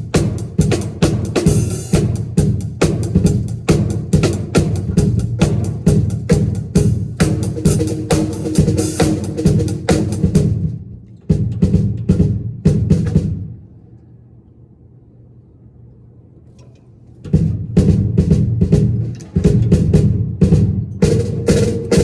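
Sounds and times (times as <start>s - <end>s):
drum kit being struck: 0.0s - 13.6s, 17.3s - 22.0s.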